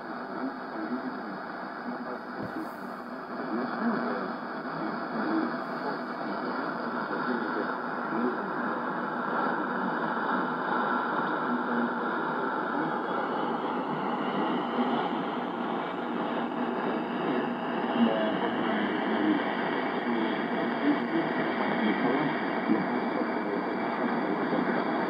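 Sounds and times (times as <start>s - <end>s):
faint radio broadcast: 0.0s - 25.0s
radio static hiss: 0.0s - 25.0s.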